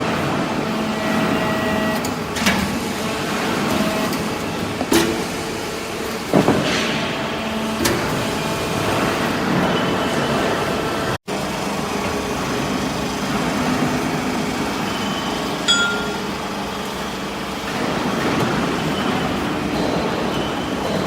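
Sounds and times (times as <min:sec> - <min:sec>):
baler press machine running: 0:00.0 - 0:21.0.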